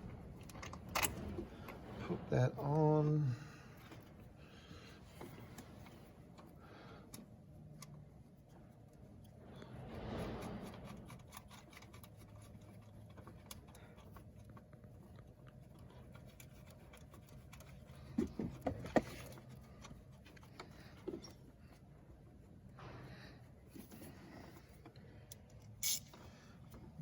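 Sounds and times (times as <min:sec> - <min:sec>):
faint handling and rustling: 0:00.0 - 0:27.0.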